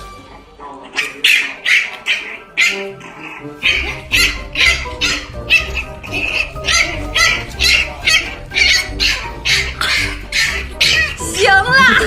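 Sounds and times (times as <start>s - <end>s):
background music: 0.0s - 12.0s
dog growling: 0.4s - 11.3s
dog barking and snarling: 0.9s - 11.2s.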